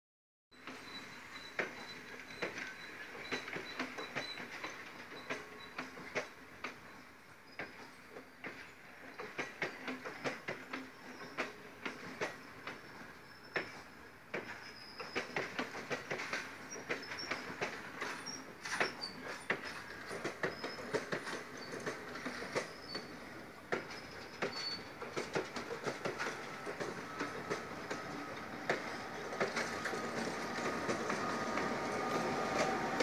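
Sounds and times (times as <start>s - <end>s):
train wheels clicking over rail joints: 0.6s - 33.0s.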